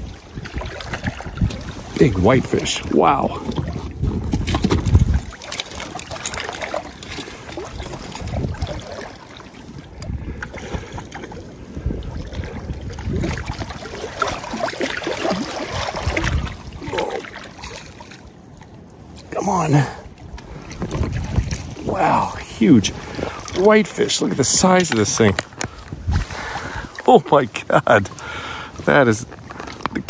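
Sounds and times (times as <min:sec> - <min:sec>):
water lapping and splashing: 0:00.0 - 0:30.0
wind rumbling on microphone: 0:00.0 - 0:30.0.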